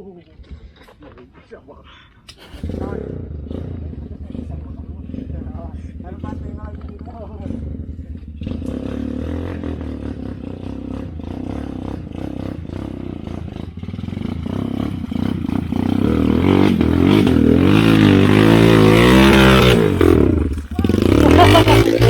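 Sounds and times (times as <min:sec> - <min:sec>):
motorcycle engine revving: 0:02.4 - 0:22.0.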